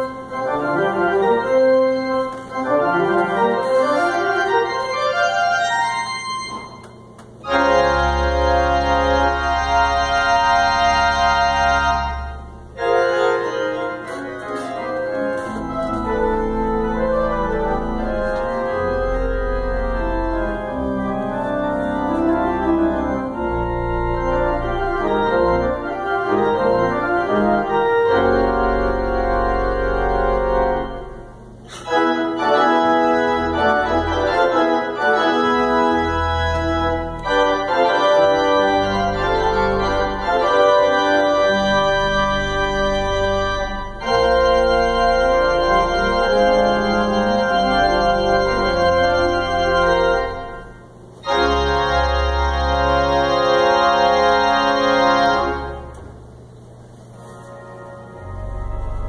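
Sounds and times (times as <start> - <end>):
organ playing sustained chords: 0.0 - 59.0.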